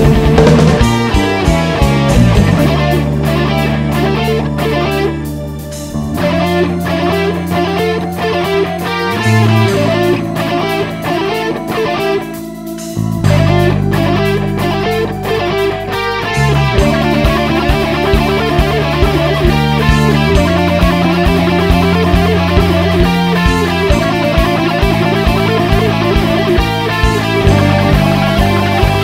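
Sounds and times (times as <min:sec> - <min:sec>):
electric guitar music: 0:00.0 - 0:29.0
sustained low bass notes: 0:00.0 - 0:29.0.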